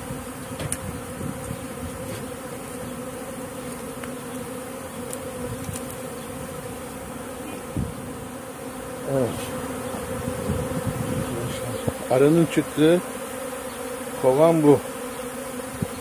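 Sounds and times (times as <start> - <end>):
bee flying past: 0.0 - 16.0
bees buzzing: 0.0 - 16.0.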